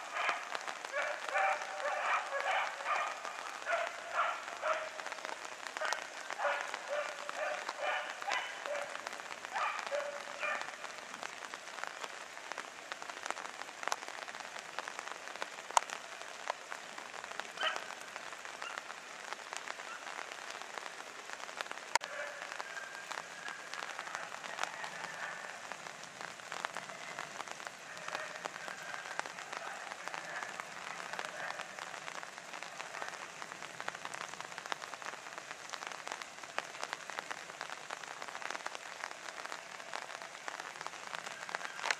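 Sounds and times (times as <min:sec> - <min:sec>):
rain pattering: 0:00.0 - 0:41.9.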